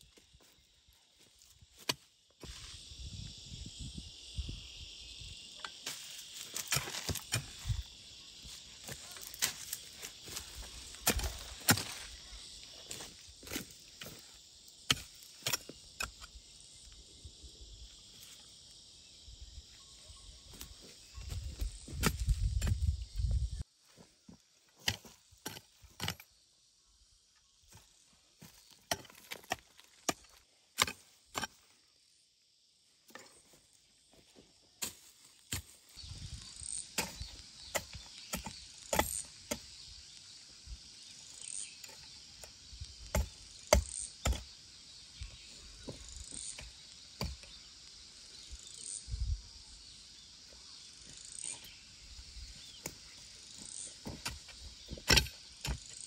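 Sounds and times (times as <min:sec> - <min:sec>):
insect drone: 0:00.0 - 0:56.0
short insect chirps: 0:00.0 - 0:56.0.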